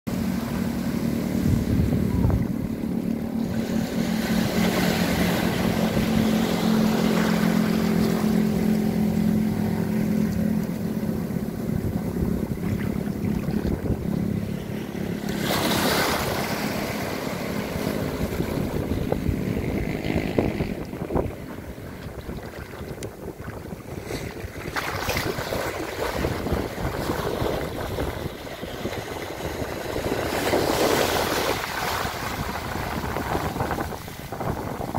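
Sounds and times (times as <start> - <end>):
waves breaking against seawall: 0.1 - 34.9
wind buffeting microphone: 1.0 - 34.9.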